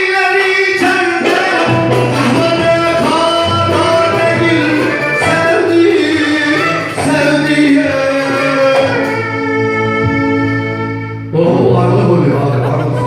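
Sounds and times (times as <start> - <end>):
person singing long notes: 0.0 - 13.0
low instrumental accompaniment: 0.8 - 13.0.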